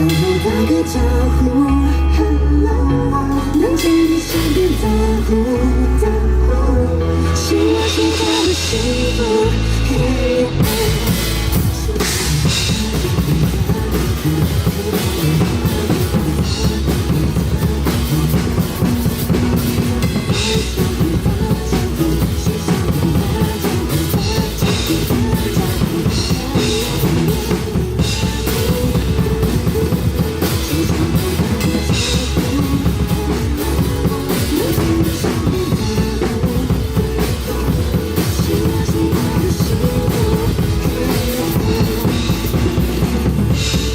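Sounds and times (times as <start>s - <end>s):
drum kit rock beat: 0.0s - 1.7s, 3.4s - 6.1s, 6.9s - 43.9s
backing track: 0.0s - 43.9s.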